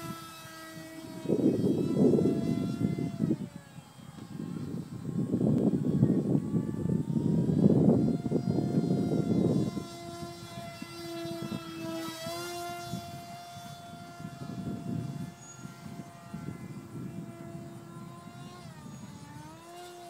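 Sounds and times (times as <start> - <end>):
electric motor and propeller whining: 0.0 - 20.0.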